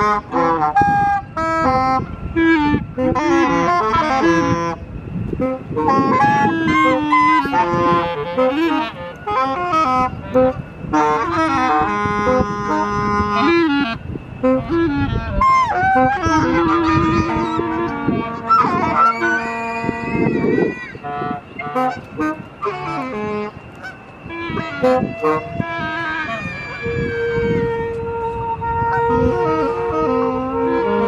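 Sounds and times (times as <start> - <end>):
long held reed tones: 0.0 - 31.0
reed instruments improvising: 0.0 - 31.0.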